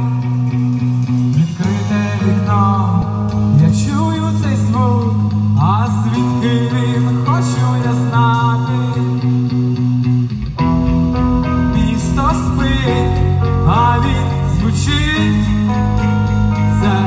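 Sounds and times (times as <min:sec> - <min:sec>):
electric guitars sliding notes: 0:00.0 - 0:17.0
live rock band music: 0:00.0 - 0:17.0.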